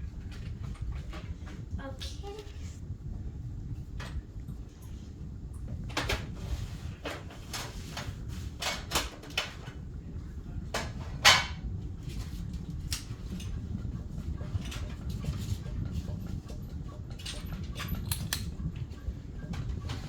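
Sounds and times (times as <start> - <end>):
ceiling fan rumbling: 0.0 - 20.0
fan knocking and clacking: 0.0 - 20.0.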